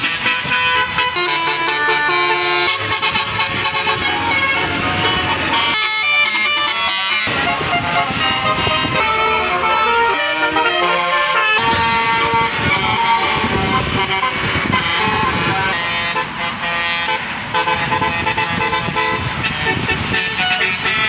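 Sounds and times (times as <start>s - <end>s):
bus musical horn melody: 0.0s - 21.0s.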